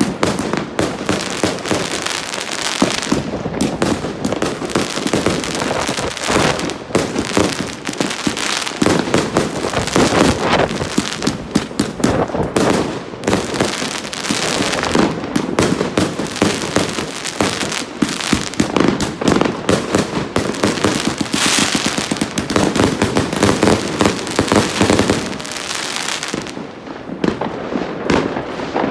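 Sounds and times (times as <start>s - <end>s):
firework barrage: 0.0s - 28.9s.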